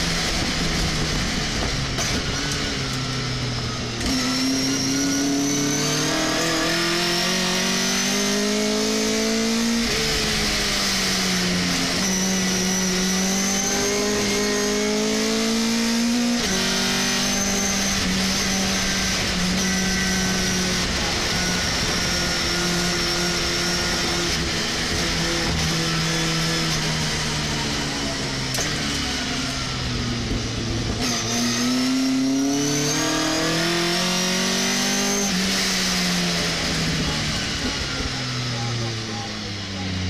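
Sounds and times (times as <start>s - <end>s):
racing truck engine revving: 0.0s - 40.0s.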